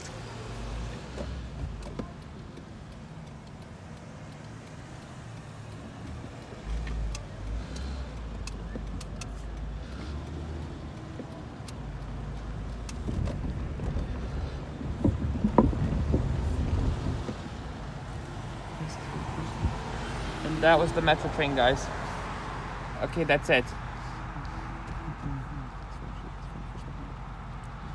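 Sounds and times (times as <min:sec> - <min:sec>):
car engine and road noise: 0:00.0 - 0:27.9
tyres crossing railroad tracks: 0:00.0 - 0:27.9.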